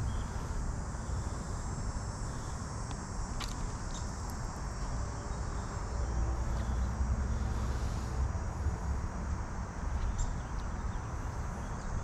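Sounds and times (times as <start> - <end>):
steady low outdoor rumble: 0.0 - 12.0.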